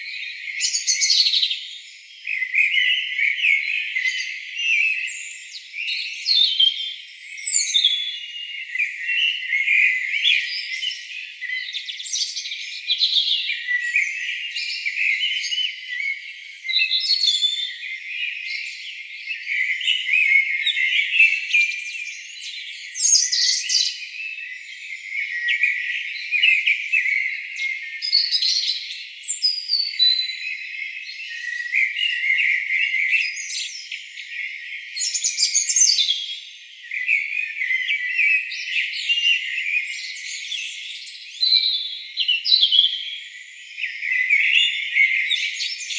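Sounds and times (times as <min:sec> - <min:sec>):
songbirds singing: 0:00.0 - 0:45.9.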